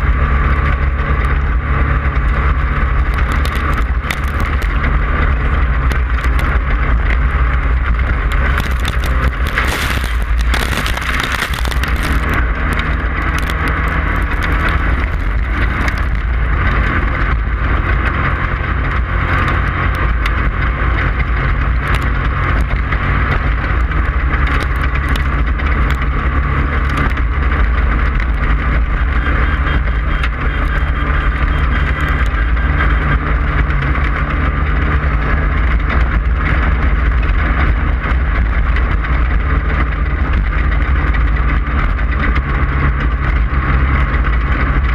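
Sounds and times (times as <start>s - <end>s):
race car engine running hard: 0.0s - 44.9s
wind and road noise: 0.0s - 44.9s.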